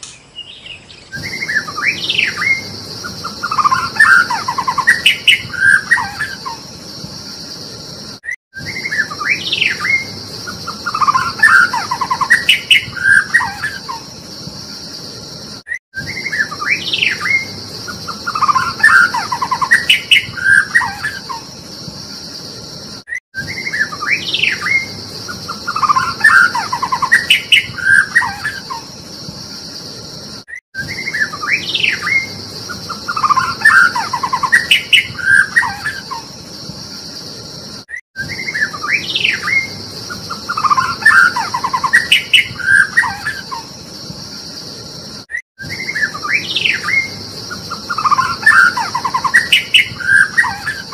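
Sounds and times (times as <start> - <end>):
bird song whistles and trills: 0.0 - 50.9
high-pitched hiss: 0.0 - 50.9.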